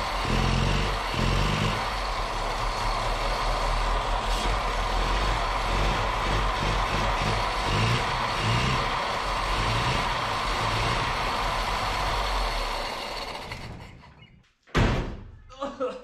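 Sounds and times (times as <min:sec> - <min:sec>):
car engine running unevenly: 0:00.0 - 0:14.1.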